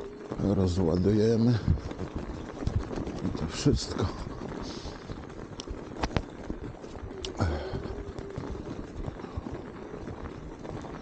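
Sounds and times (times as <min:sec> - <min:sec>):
tyres crunching through snow: 0:00.0 - 0:11.0.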